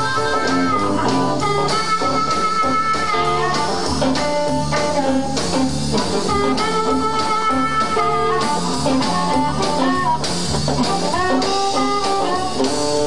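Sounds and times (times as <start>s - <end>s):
electric guitar: 0.0s - 13.0s
harmonica with bending notes: 0.0s - 13.0s.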